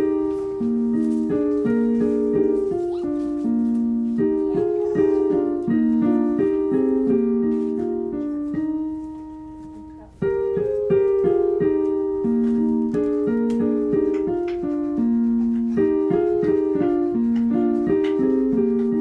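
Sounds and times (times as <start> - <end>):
piano melody over chords: 0.0 - 19.0.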